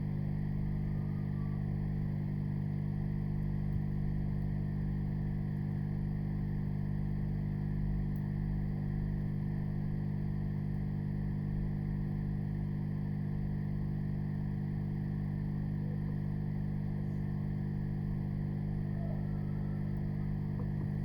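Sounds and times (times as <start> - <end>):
hot air station blowing hum: 0.0 - 21.0.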